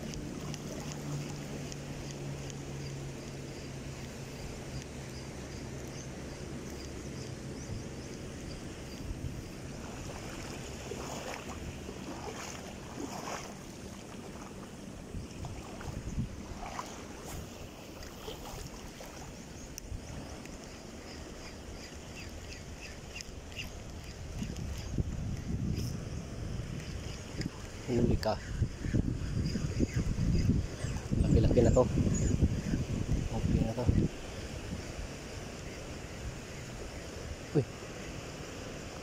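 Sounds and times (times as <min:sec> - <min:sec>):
distant boat engine hum: 0:00.0 - 0:39.0
gently moving sea water: 0:00.0 - 0:39.0
wind: 0:00.0 - 0:39.0.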